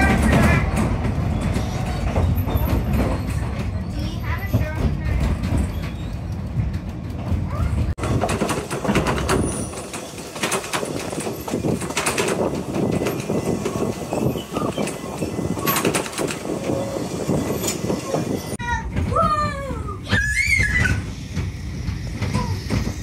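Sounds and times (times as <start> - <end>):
train carriage rattling: 0.0 - 23.0
wheels knocking on track: 0.0 - 23.0.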